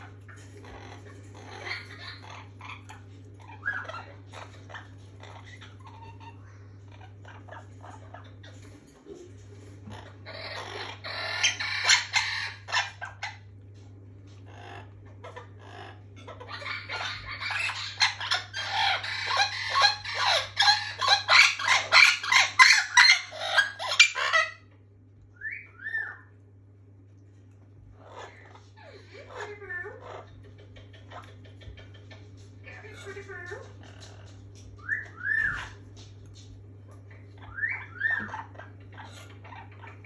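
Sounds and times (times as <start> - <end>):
parrot squawking: 0.0 - 9.0, 9.8 - 13.5, 14.4 - 24.8, 25.4 - 26.3, 27.9 - 40.0.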